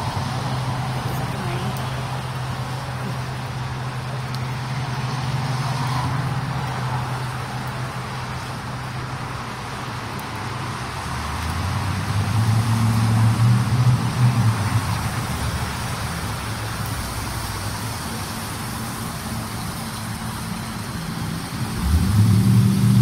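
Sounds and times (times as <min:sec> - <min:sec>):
car approaching: 0:00.0 - 0:23.0
traffic on wet street: 0:00.0 - 0:23.0.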